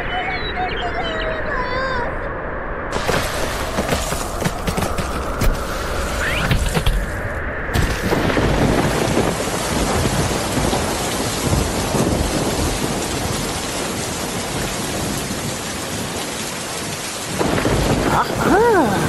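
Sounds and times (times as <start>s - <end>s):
heavy rain: 2.9s - 19.0s
thunder rumbling: 2.9s - 19.0s.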